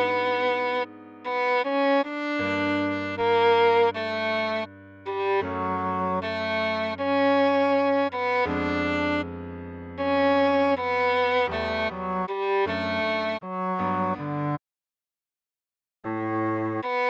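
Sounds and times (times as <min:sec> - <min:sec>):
cello playing slow melody: 0:00.0 - 0:14.6, 0:16.1 - 0:17.0.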